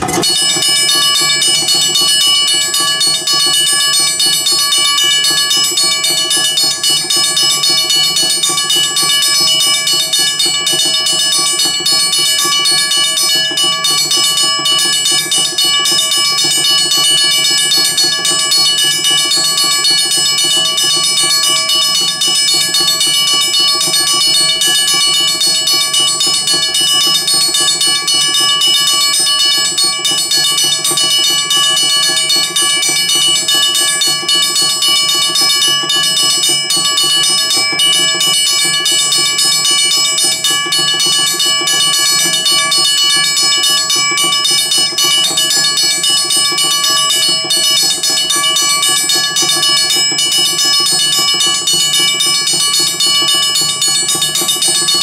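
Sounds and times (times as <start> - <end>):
crossing bell ringing rapidly: 0.0 - 55.0.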